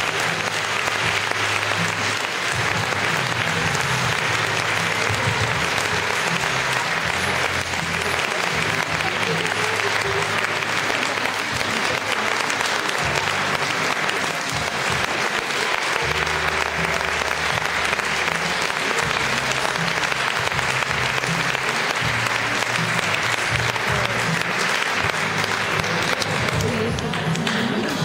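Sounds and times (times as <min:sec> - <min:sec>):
crowd clapping: 0:00.0 - 0:28.0.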